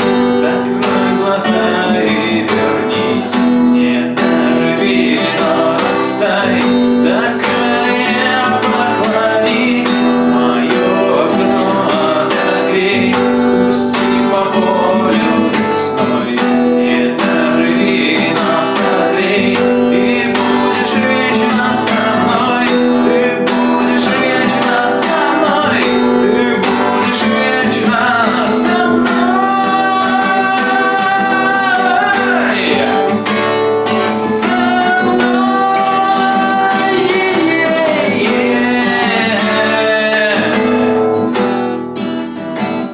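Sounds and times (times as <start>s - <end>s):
man singing: 0.0s - 41.3s
strummed acoustic guitar: 0.0s - 42.9s.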